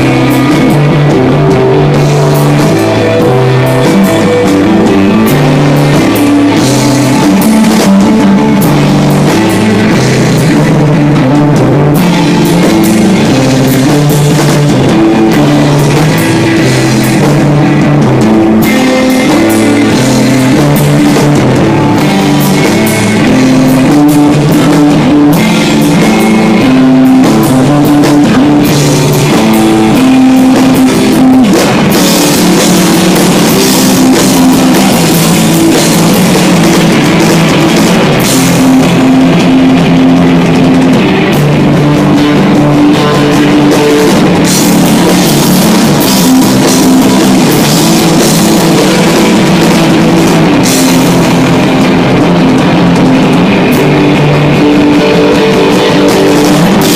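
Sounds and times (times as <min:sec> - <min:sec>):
drum kit playing: 0:00.0 - 0:56.9
electric guitar held notes: 0:00.0 - 0:56.9.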